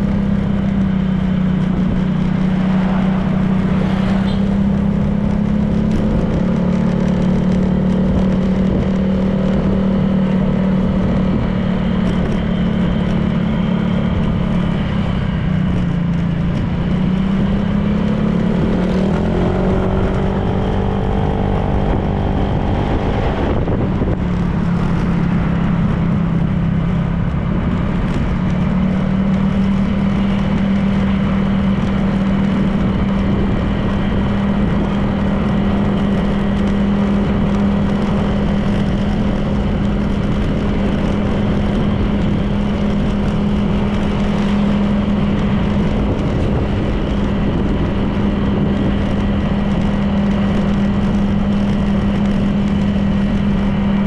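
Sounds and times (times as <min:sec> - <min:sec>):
road and wind noise: 0:00.0 - 0:54.0
scooter engine cruising: 0:00.0 - 0:54.0.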